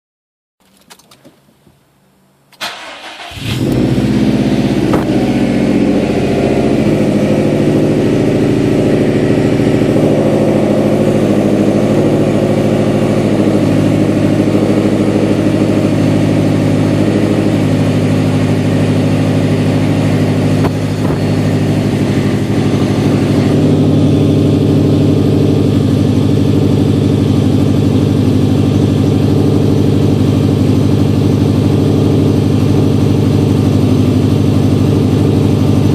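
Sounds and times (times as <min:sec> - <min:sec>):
car engine starting and idling: 0:02.4 - 0:35.9.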